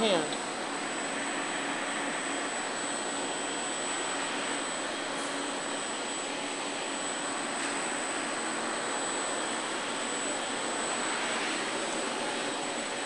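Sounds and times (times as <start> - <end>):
high-pitched machine whine: 0.0 - 13.0.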